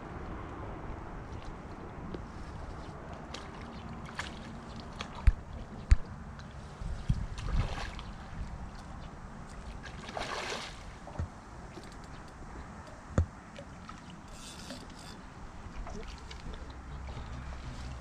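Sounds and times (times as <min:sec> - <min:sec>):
wind: 0:00.0 - 0:18.0
water lapping: 0:01.2 - 0:18.0.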